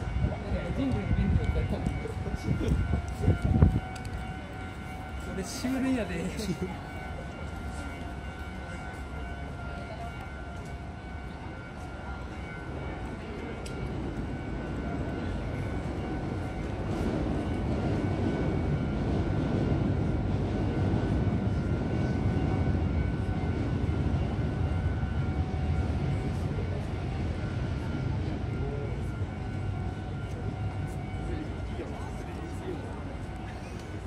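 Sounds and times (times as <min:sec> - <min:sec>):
train passing rumble: 0:00.0 - 0:34.0.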